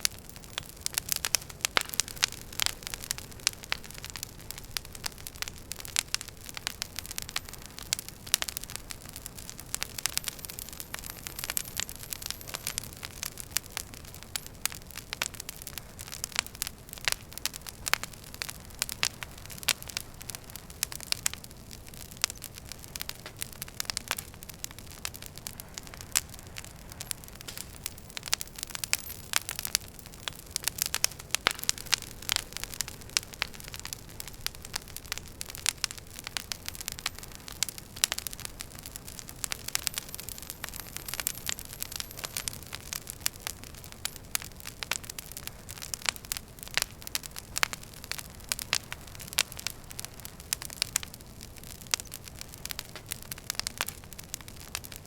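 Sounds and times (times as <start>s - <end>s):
flame rumbling: 0.0s - 55.0s
logs crackling and popping: 0.0s - 55.0s.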